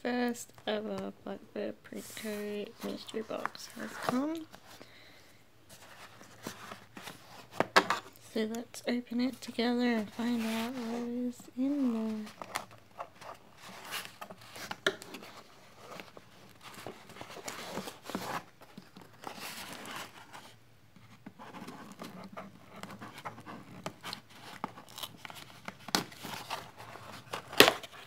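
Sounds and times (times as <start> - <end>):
cardboard scraping and rustling: 2.0 - 4.8, 5.7 - 8.2, 9.8 - 28.0.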